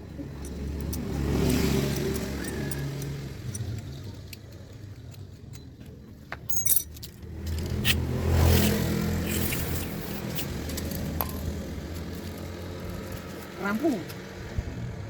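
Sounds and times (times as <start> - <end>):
engine humming: 0.0 - 15.0
metallic clinks: 0.3 - 13.5.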